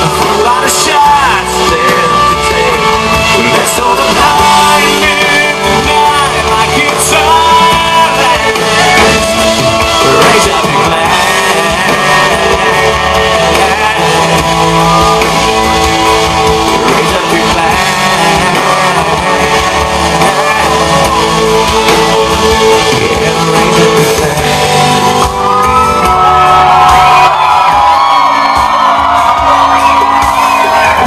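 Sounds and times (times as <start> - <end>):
country-rock band instrumental: 0.0 - 31.0.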